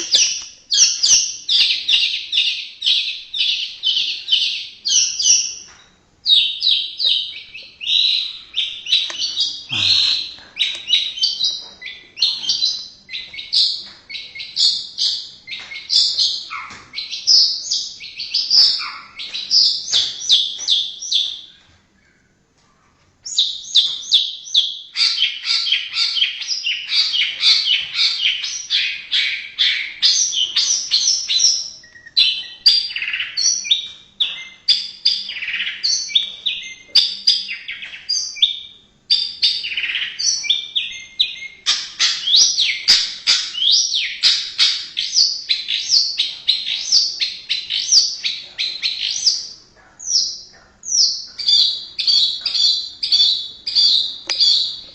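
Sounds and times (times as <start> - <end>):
songbird whistling and chattering: 0.0 - 21.5, 23.2 - 54.9.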